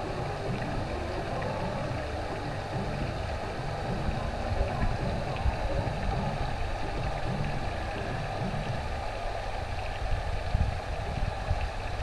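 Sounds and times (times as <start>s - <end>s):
pool water lapping: 0.0s - 12.0s.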